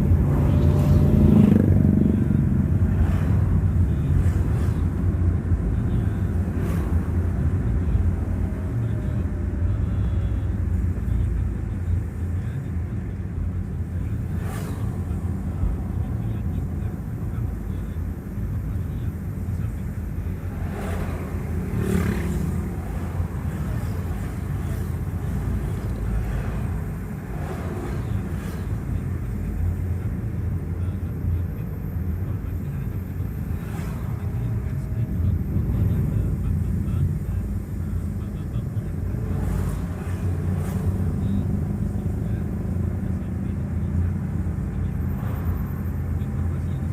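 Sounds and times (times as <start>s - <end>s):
road noise: 0.0s - 46.9s
vehicle engine rumble: 0.0s - 46.9s
wind: 0.0s - 46.9s.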